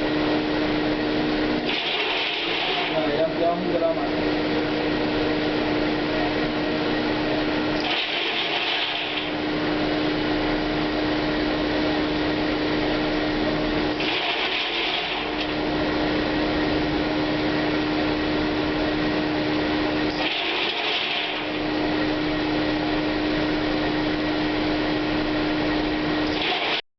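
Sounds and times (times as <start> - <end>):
grain dryer droning: 0.0 - 26.8.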